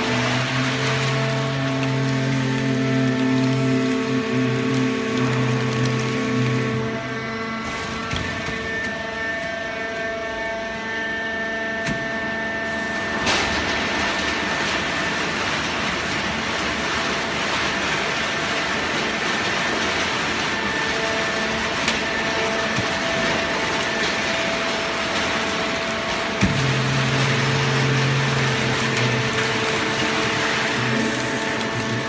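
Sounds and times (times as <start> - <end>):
baler machine hum with whining: 0.0 - 32.0.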